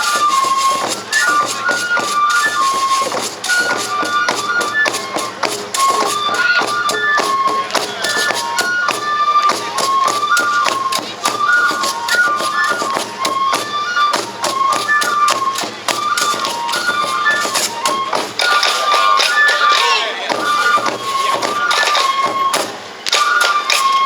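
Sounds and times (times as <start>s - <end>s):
fast steady drumbeats: 0.0s - 24.0s
high flute melody: 0.0s - 24.0s.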